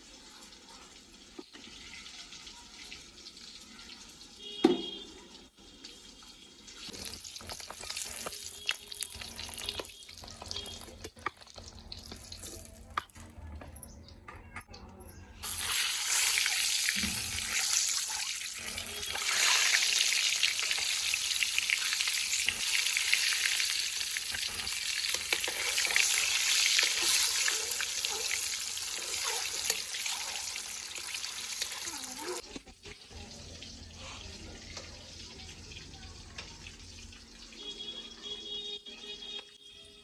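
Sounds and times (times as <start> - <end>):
food sizzling in hot oil: 0.0 - 12.9, 15.4 - 37.9.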